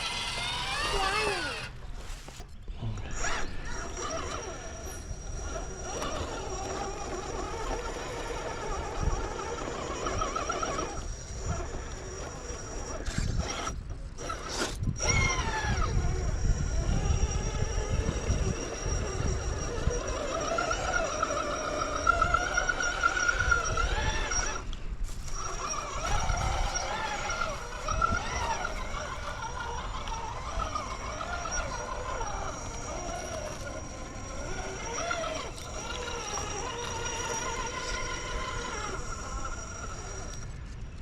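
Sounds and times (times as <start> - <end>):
electric motor whining: 0.0 - 41.0.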